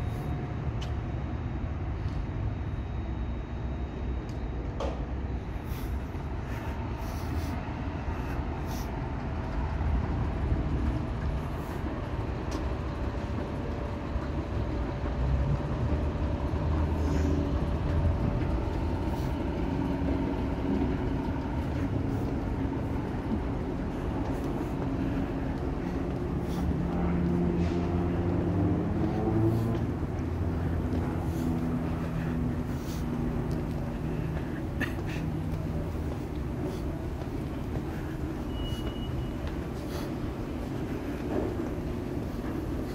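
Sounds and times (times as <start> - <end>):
faint engine tones: 0.0 - 42.9
road traffic rumble: 0.0 - 42.9
vehicles passing: 3.6 - 42.9.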